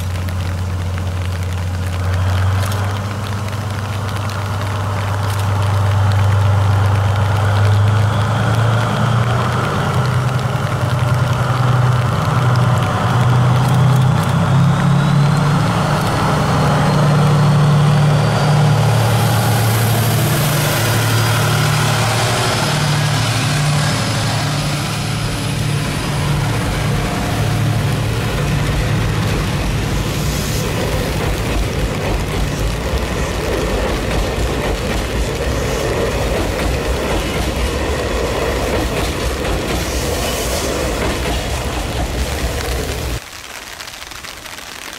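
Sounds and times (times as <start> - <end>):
locomotive engine: 0.0 - 43.4
hiss of coaches rolling: 0.0 - 44.9.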